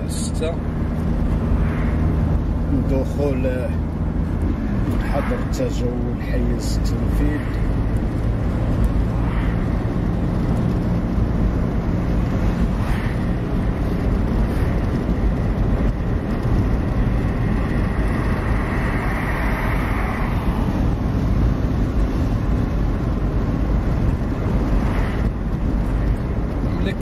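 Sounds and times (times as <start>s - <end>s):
car engine: 0.0s - 27.0s
road noise: 0.0s - 27.0s
wind rush: 0.0s - 27.0s.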